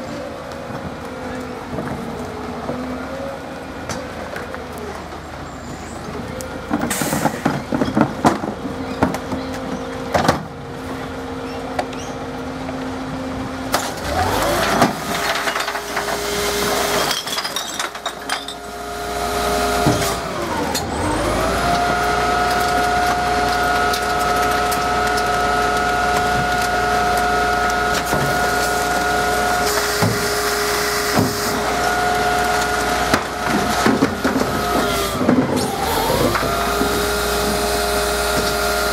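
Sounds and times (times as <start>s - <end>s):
garbage truck engine: 0.0s - 38.9s
hydraulics whining: 0.0s - 38.9s.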